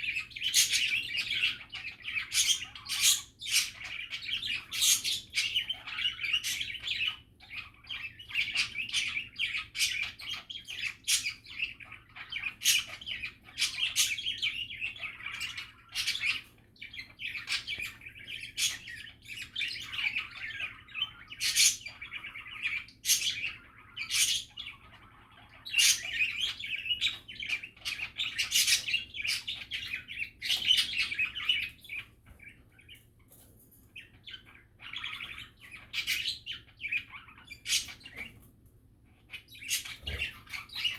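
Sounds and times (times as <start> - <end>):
budgerigars chattering: 0.0 - 33.0, 34.0 - 38.4, 39.2 - 40.9.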